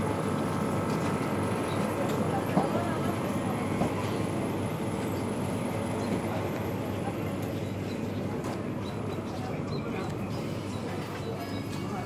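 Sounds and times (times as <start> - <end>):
indistinct voices of passers-by: 0.0 - 12.0.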